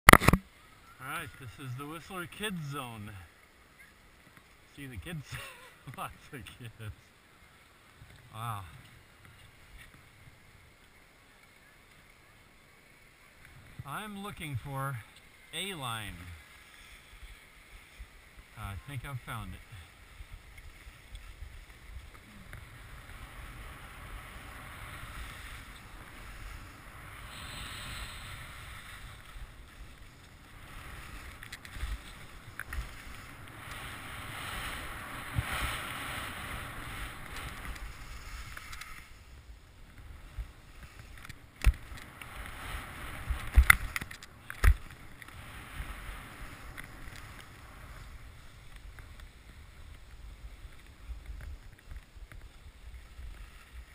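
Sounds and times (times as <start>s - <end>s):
skis scraping over snow: 0.8s - 53.9s.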